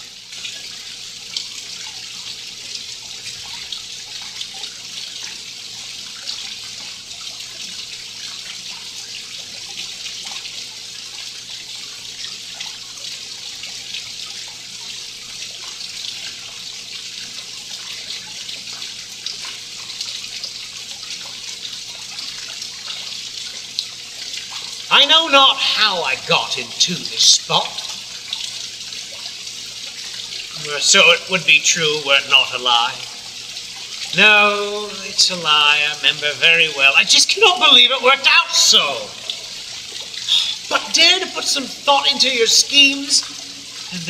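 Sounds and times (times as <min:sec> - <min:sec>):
running water rushing: 0:00.0 - 0:44.0.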